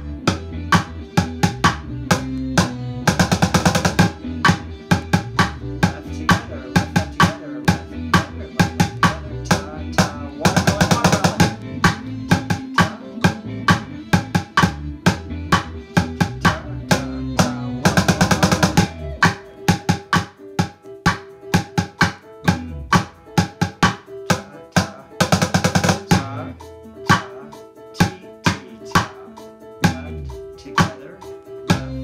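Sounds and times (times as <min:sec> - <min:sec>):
backing track with bass: 0:00.0 - 0:32.0
drumsticks beating household item: 0:00.3 - 0:26.4, 0:28.0 - 0:29.2.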